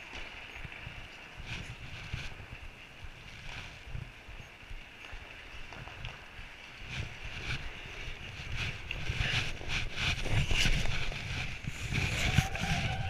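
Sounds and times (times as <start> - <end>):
skate blades scraping on ice: 0.0 - 13.0.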